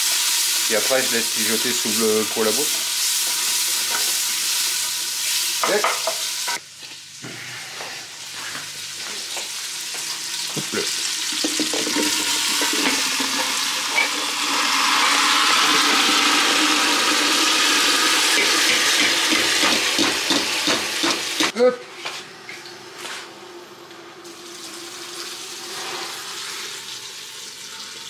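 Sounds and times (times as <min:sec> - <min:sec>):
vegetables sizzling in a pot: 0:00.0 - 0:21.5, 0:24.2 - 0:28.0.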